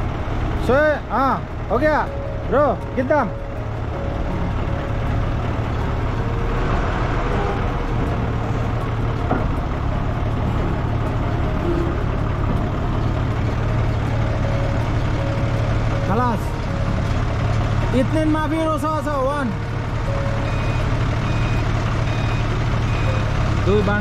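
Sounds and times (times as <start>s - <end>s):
forklift engine running: 0.0s - 24.0s.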